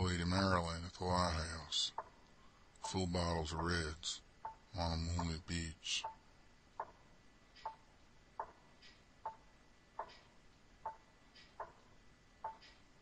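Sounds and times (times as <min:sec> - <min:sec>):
regular ticking with ringing tone: 0:00.0 - 0:13.0.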